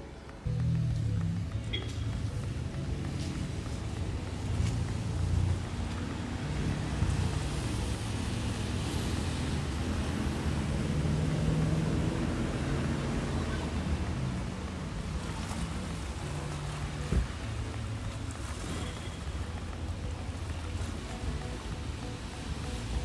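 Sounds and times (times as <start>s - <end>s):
waves splashing against stone wall: 0.0s - 23.0s.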